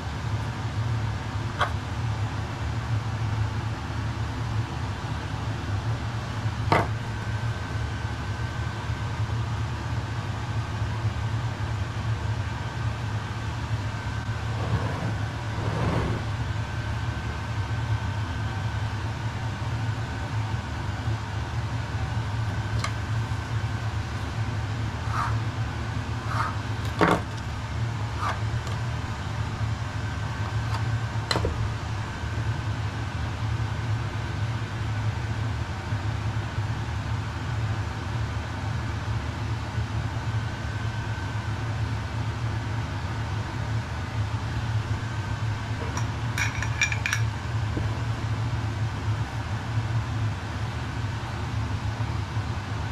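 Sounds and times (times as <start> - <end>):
low mechanical hum: 0.0 - 52.9.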